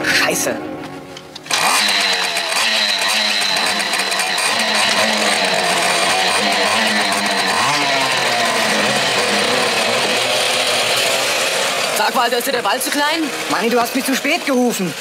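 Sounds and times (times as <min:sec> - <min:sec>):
small motorcycle engines revving: 0:01.4 - 0:15.0.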